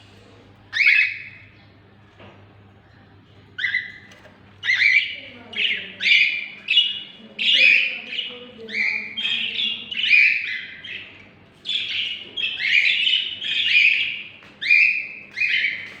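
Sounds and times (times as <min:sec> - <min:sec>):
parrots squawking: 0:00.7 - 0:01.4, 0:03.6 - 0:16.0.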